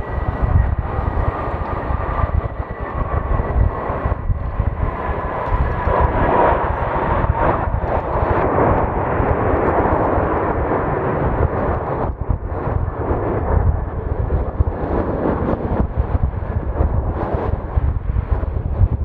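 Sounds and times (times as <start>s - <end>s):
jet engine rushing: 0.0s - 19.0s
wind buffeting microphone: 0.0s - 19.0s.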